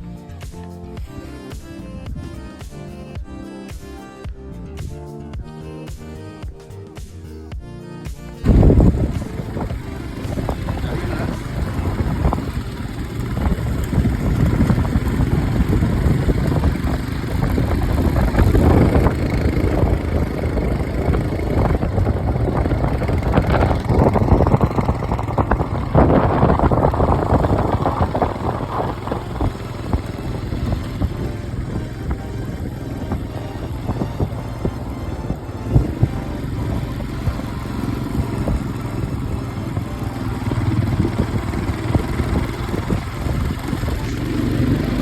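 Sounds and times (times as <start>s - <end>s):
wind noise on microphone: 0.0s - 2.8s, 8.4s - 45.0s
motorcycle engine rumble: 8.4s - 45.0s.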